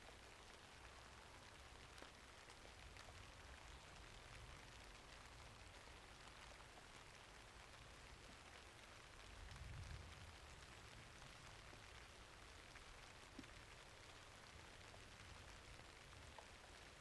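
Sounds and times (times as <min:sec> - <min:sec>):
faint steady rainfall: 0:00.0 - 0:17.0.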